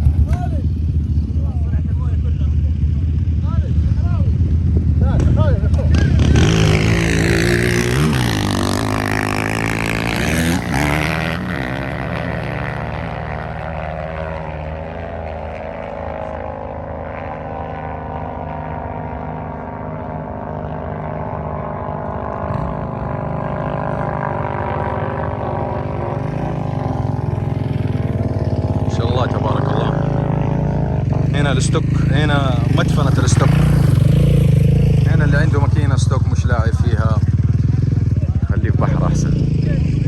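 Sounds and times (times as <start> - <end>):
atv engine running: 0.0 - 40.0.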